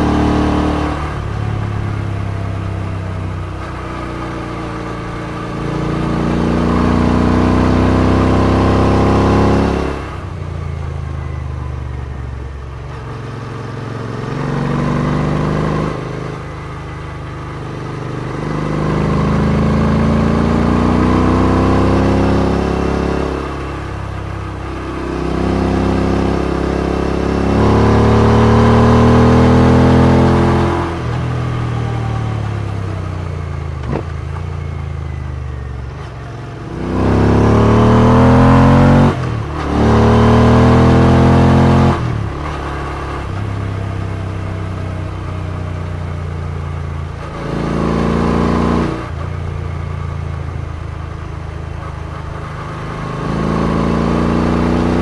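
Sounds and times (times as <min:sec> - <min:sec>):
motorcycle engine revving: 0:00.0 - 0:11.4, 0:12.4 - 0:55.0.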